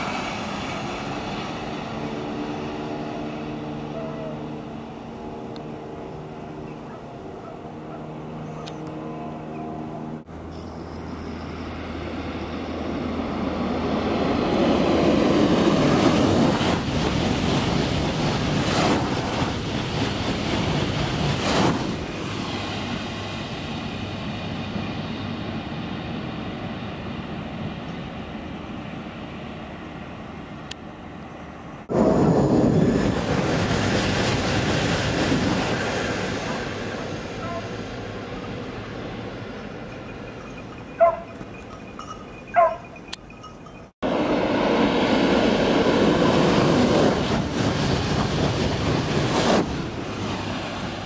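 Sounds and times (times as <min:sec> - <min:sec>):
high-speed train rushing past: 0:00.0 - 0:51.0.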